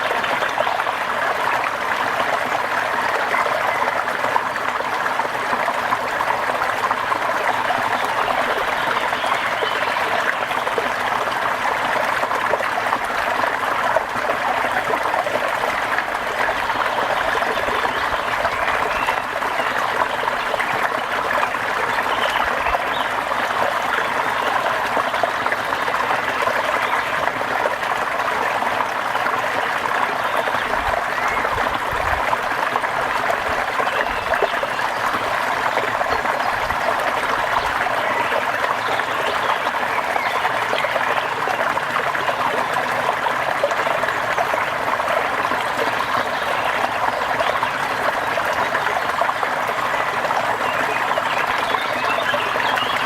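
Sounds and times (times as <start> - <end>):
rushing trickling water: 0.0 - 53.0.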